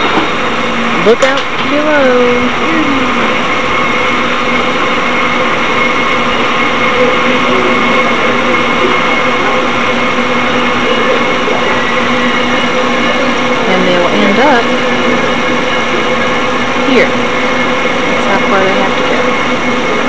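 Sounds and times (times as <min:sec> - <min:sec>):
cable haulage machinery humming: 0:00.0 - 0:20.0.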